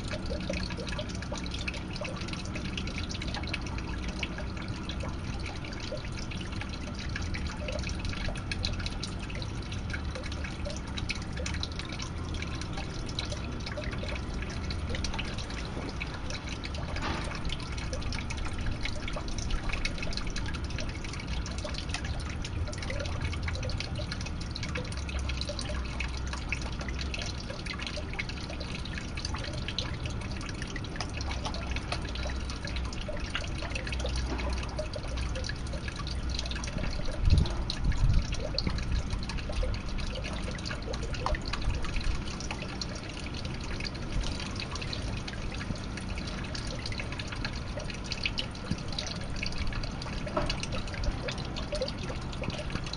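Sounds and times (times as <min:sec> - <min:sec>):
water trickling into pond: 0:00.0 - 0:52.9.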